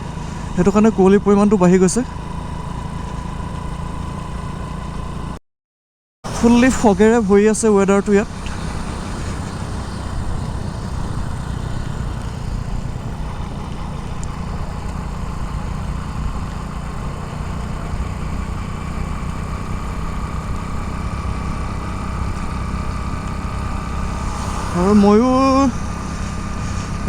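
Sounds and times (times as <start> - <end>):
motorcycle engine running: 0.0 - 5.4, 8.1 - 27.0
road and air noise: 0.0 - 5.4, 6.2 - 27.0.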